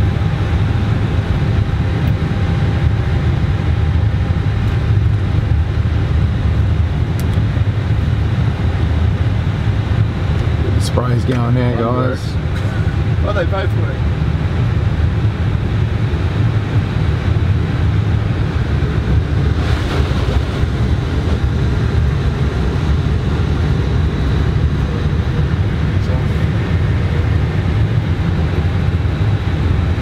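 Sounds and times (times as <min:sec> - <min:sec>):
airliner engines idling rumble: 0:00.0 - 0:30.0.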